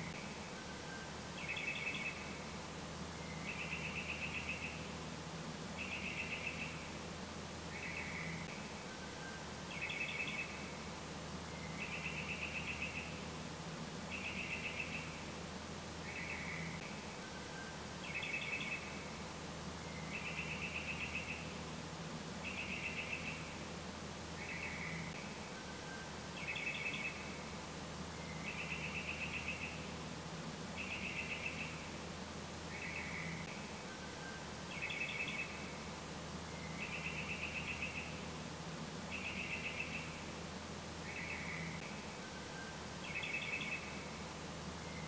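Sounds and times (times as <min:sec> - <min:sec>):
faint low hum: 0:00.0 - 0:45.0.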